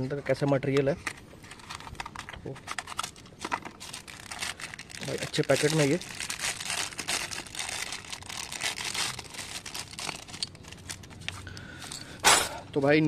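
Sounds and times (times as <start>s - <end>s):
plastic packaging crinkling: 1.0s - 11.5s.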